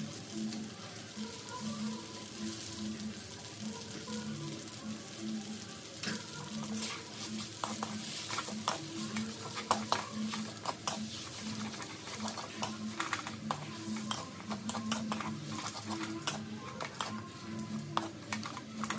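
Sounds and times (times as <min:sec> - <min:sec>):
food sizzling in wok: 0:00.0 - 0:18.9.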